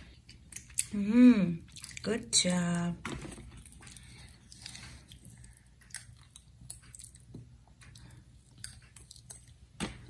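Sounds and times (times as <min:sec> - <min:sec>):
child chewing: 0:00.0 - 0:02.1, 0:03.2 - 0:10.0.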